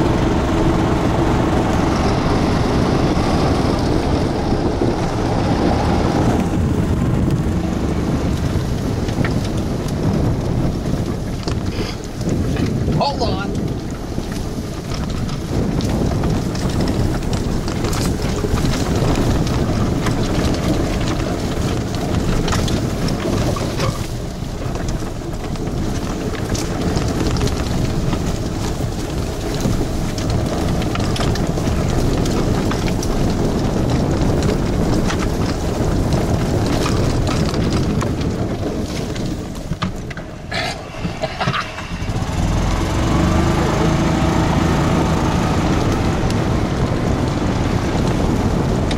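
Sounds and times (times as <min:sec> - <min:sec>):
cart rattling and knocking: 0:00.0 - 0:48.9
wind noise on microphone: 0:00.0 - 0:48.9.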